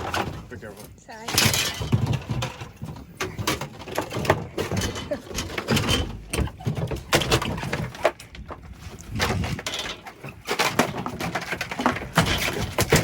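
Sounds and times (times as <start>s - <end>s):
knocks and thumps on a boat: 0.0s - 13.0s.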